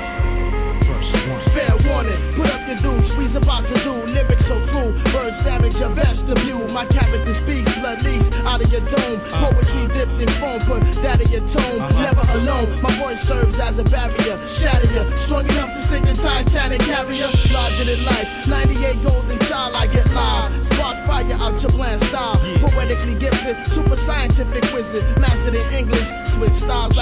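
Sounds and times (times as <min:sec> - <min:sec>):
music with heavy bass and drum beat: 0:00.0 - 0:27.0.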